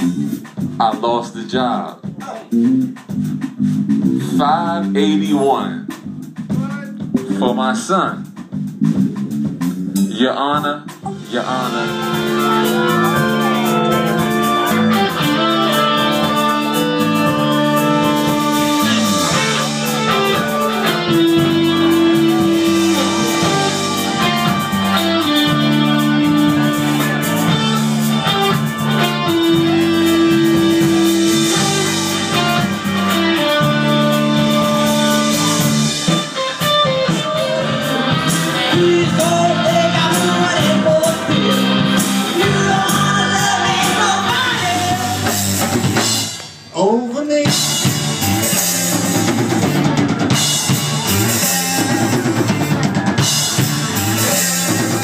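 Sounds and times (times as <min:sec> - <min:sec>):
bass guitar: 0:00.0 - 0:55.0
drums: 0:00.0 - 0:55.0
electric guitar: 0:10.8 - 0:55.0.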